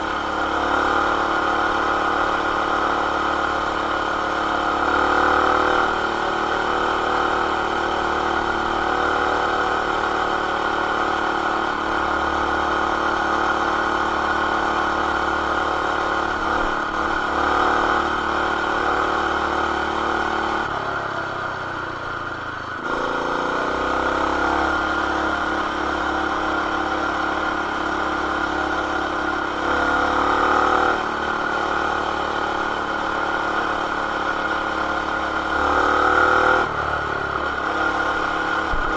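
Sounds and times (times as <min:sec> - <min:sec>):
muffled mini bike engine revving: 0:00.0 - 0:38.9.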